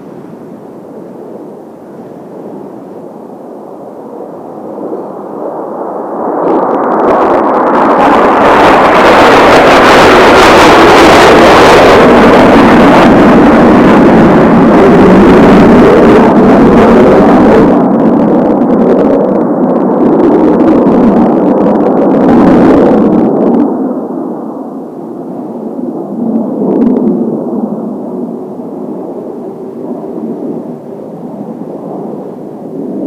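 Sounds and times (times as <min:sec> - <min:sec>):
jet aircraft passing low: 0:00.0 - 0:33.0.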